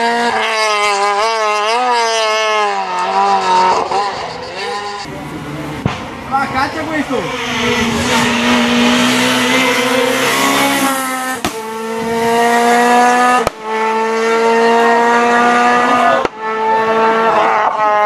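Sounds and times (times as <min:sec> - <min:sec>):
rally car engine accelerating: 0:00.0 - 0:18.0.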